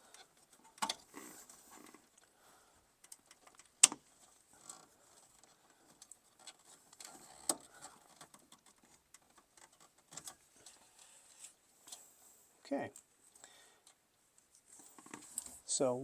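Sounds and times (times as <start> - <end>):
wires rustling: 0.0 - 16.0.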